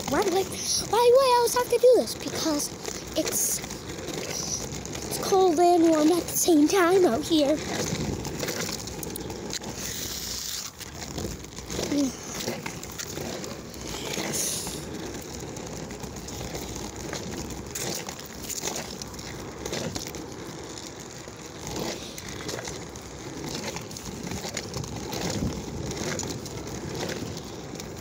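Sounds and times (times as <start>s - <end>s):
scooter rolling over pavement: 0.0s - 28.0s.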